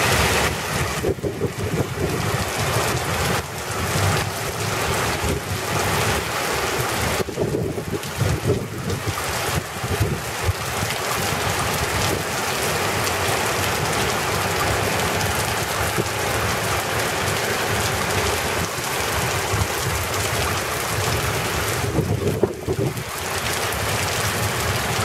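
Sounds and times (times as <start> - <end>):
heavy rain hiss: 0.0 - 25.0.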